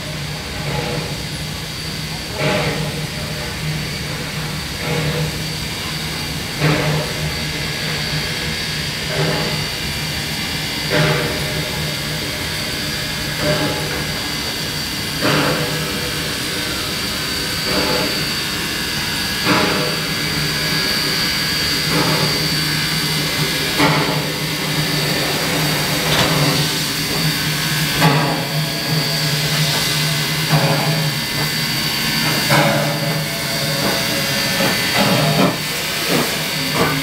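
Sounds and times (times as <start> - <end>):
steam hum and hiss: 0.0 - 37.0
steam locomotive chuffing: 0.0 - 37.0.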